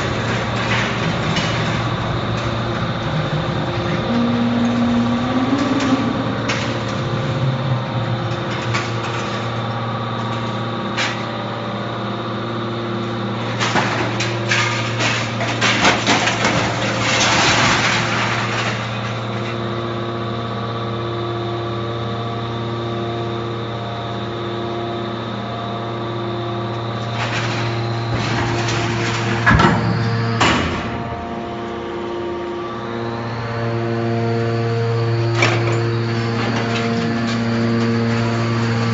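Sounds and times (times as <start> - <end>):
baler motor hum: 0.0 - 38.9.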